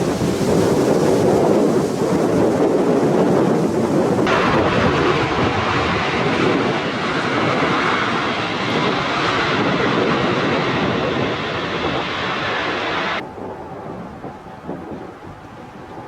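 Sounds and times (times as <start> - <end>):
jet engines roaring: 0.0 - 16.0
wind buffeting microphone: 0.0 - 16.0.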